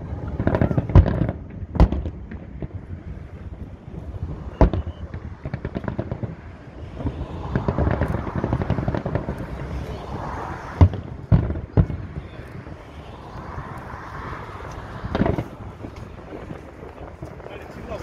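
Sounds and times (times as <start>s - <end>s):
fireworks booming: 0.0s - 18.0s
fireworks pops and crackles: 0.0s - 18.0s.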